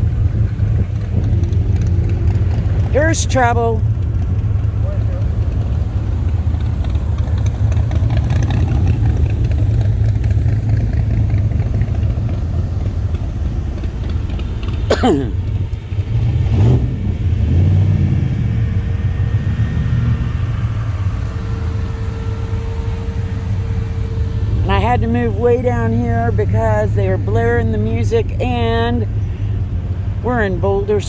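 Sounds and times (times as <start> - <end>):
engine revving: 0.0 - 29.5
car engines rumbling past: 0.0 - 31.0.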